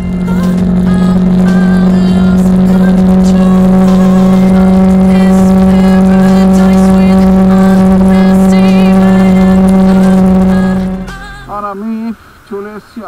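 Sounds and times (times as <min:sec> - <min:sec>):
music playing: 0:00.0 - 0:12.1
motorcycle engine droning: 0:00.0 - 0:12.2.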